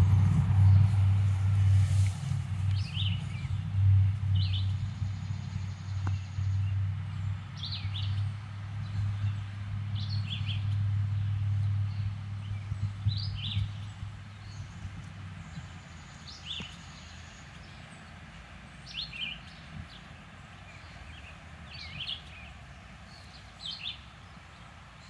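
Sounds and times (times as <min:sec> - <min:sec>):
low engine-like hum: 0:00.0 - 0:25.0
small birds chirping: 0:00.0 - 0:25.0.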